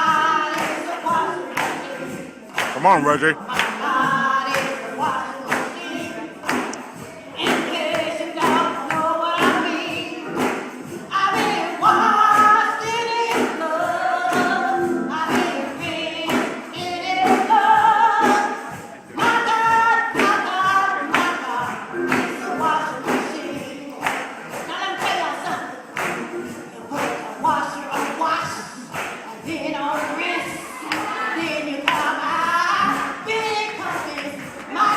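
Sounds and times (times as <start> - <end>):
group gospel singing: 0.0 - 34.9.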